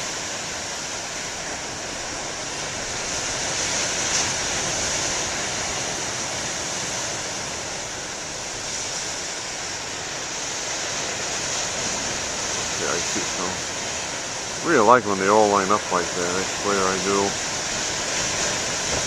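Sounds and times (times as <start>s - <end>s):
ocean surf rushing: 0.0s - 19.0s
wave breaking: 0.0s - 19.0s.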